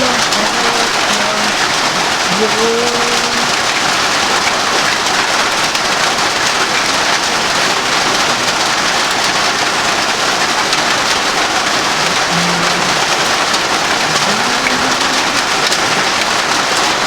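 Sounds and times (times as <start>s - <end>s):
heavy rainfall: 0.0s - 17.0s.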